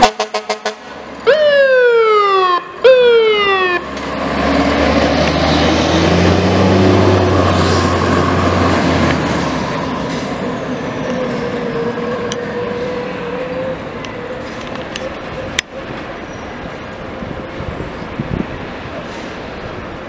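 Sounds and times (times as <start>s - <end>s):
fire truck diesel engine accelerating: 0.0s - 20.0s.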